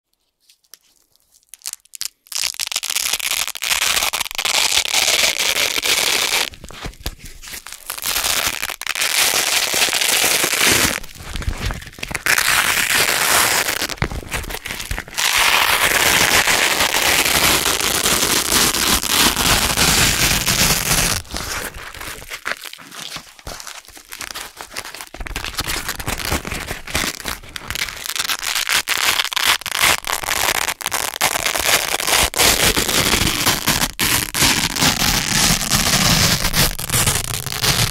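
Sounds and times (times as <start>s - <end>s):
velcro being peeled apart: 0.5s - 37.9s.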